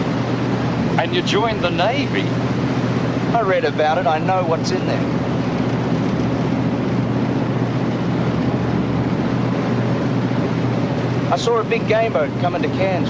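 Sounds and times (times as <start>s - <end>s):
boat engines droning: 0.0s - 13.0s
wind and sea noise: 0.0s - 13.0s.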